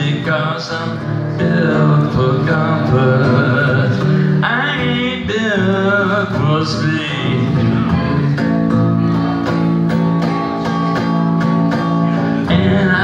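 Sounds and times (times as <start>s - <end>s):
man singing: 0.0s - 9.7s, 12.1s - 13.0s
electric guitar strumming: 0.0s - 13.0s.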